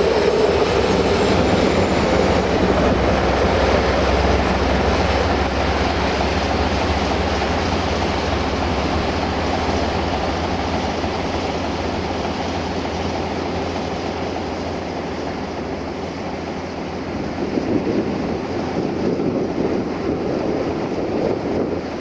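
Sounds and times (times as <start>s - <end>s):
distant diesel engine: 0.0s - 22.0s
freight wagons rumbling: 0.0s - 22.0s.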